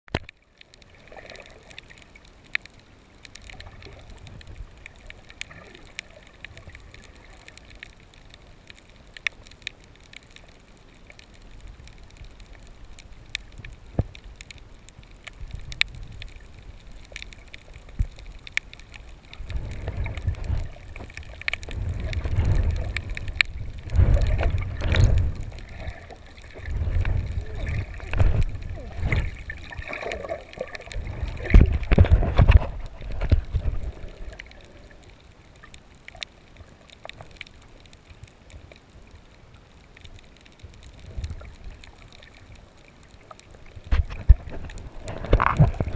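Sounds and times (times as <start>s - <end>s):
sharp underwater clicks: 0.1s - 45.9s
underwater wash of moving water: 0.1s - 45.9s
water surging against camera: 0.1s - 45.9s.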